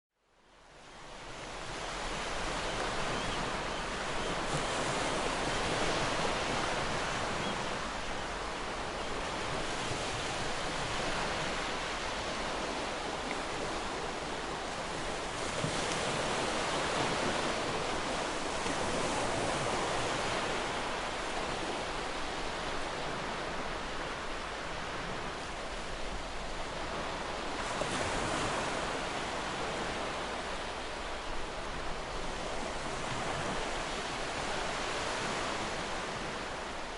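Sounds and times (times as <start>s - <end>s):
ocean waves breaking on shore: 0.5s - 36.9s.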